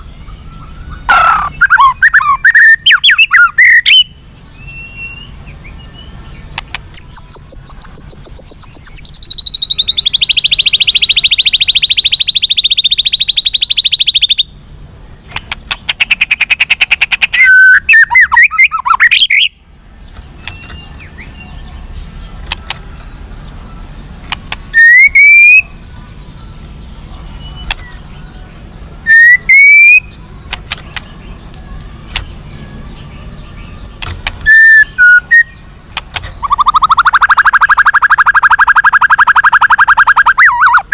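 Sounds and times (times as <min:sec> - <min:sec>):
bird singing trills and whistles: 0:00.0 - 0:40.9.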